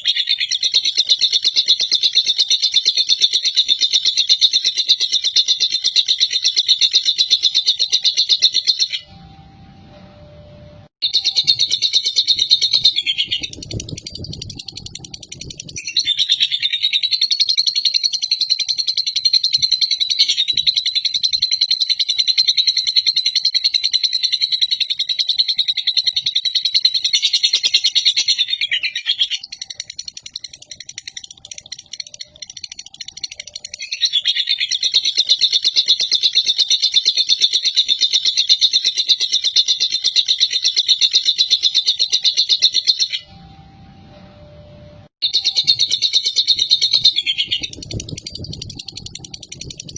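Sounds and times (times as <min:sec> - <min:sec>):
lovebird chattering trill: 0:00.0 - 0:09.1, 0:11.0 - 0:43.3, 0:45.2 - 0:49.9.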